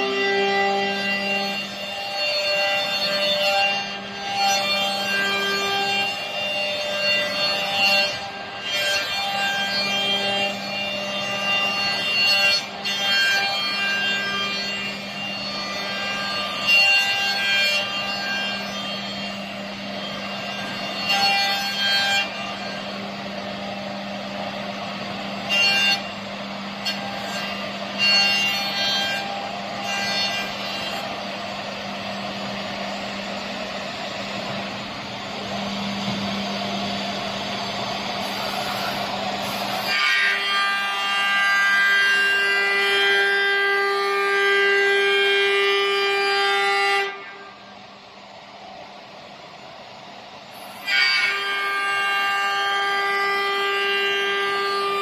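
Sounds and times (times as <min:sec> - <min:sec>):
cnc router machine running: 0:00.0 - 0:55.0.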